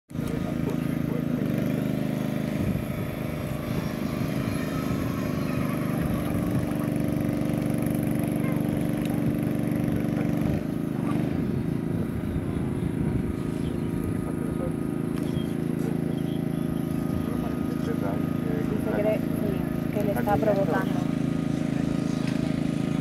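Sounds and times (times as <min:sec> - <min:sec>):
engine running: 0:00.1 - 0:23.0.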